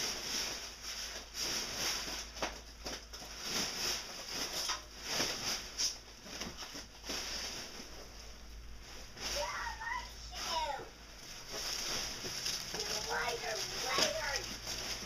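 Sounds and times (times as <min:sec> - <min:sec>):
bubble wrap and paper crinkling: 0:00.0 - 0:15.0.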